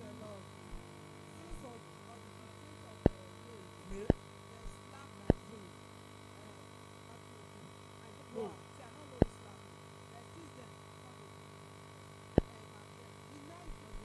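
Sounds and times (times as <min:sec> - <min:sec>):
buzzy electrical hum: 0:00.0 - 0:14.0.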